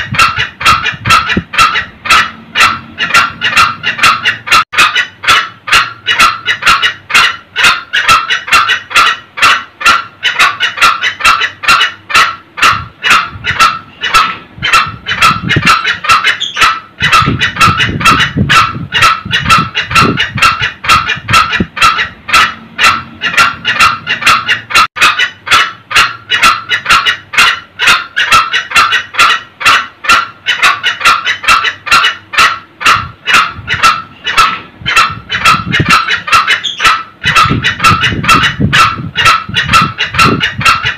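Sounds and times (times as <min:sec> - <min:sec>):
junglefowl cackling calls: 0:00.0 - 0:40.9.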